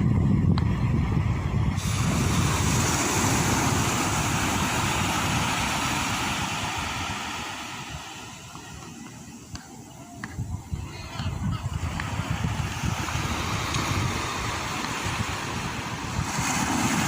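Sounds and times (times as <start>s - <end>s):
sea surf breaking: 1.2s - 9.6s, 10.8s - 17.0s.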